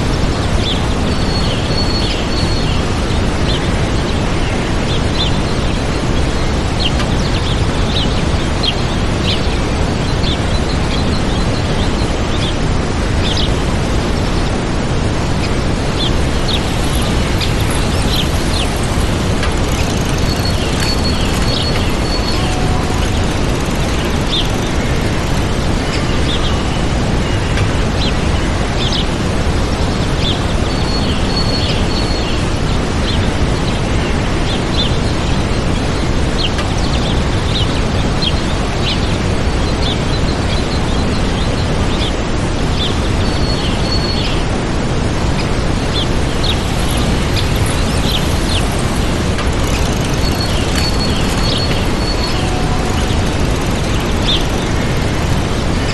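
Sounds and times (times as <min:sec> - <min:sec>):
waterfall rushing: 0:00.0 - 0:55.9
small birds chirping: 0:00.3 - 0:12.6, 0:13.2 - 0:44.6, 0:45.4 - 0:55.9.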